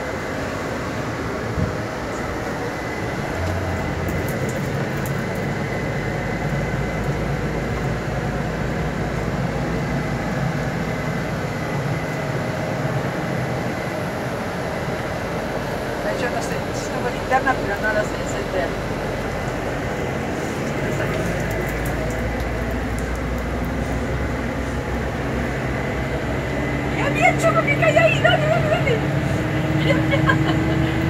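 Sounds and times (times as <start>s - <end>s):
bus engine drone: 0.0s - 31.0s
road noise rush: 0.0s - 31.0s.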